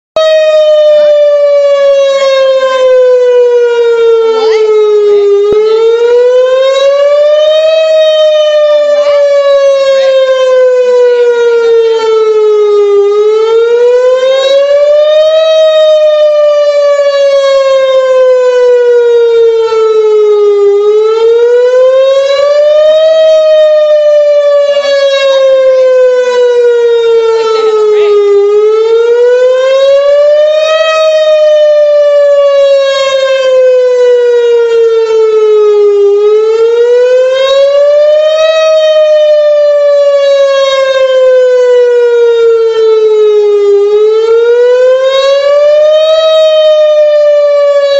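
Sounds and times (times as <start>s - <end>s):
tornado warning siren: 0.0s - 47.9s.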